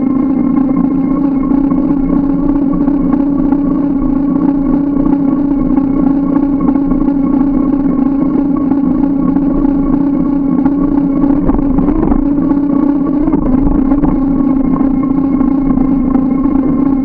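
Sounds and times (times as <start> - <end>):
bike ride drone: 0.0 - 17.0
rushing hum: 0.0 - 17.0.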